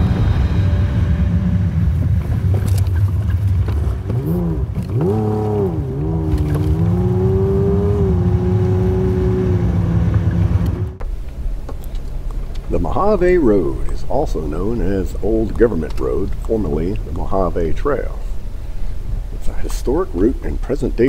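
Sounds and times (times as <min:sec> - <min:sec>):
truck engine running: 0:00.0 - 0:21.0
tyres on rough dirt road: 0:00.0 - 0:21.0.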